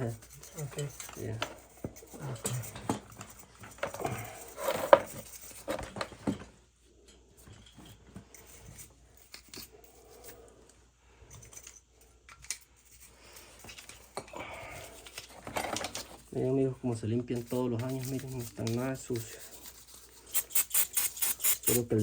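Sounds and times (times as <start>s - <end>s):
metal parts and tools handled: 0.0s - 6.4s, 7.0s - 10.5s, 11.3s - 16.4s, 17.3s - 22.0s.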